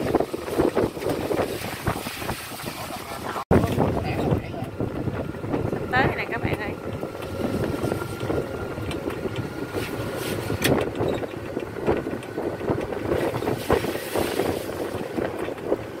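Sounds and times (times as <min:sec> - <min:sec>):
electric cart rumbling: 0:00.0 - 0:16.0
wind buffeting microphone: 0:00.0 - 0:16.0.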